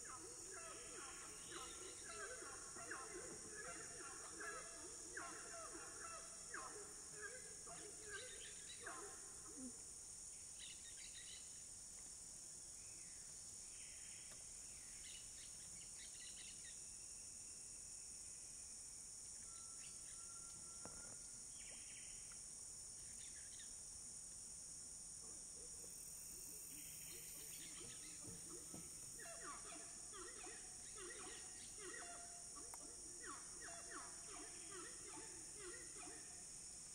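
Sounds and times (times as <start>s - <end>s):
cicadas and insects chorus: 0.0s - 36.9s.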